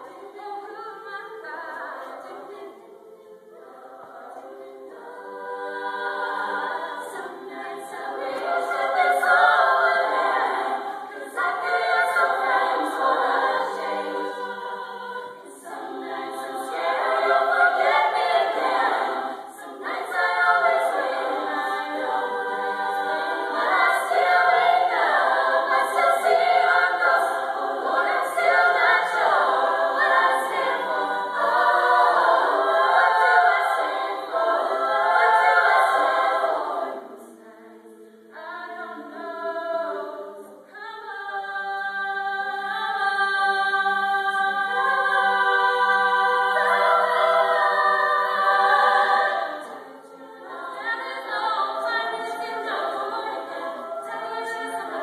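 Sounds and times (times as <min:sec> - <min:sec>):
female vocal group singing: 0:00.0 - 0:55.0.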